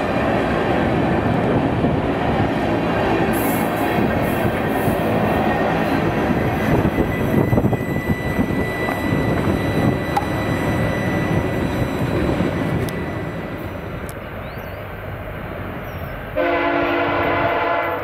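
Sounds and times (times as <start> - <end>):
train cars rumbling on track: 0.0 - 18.0.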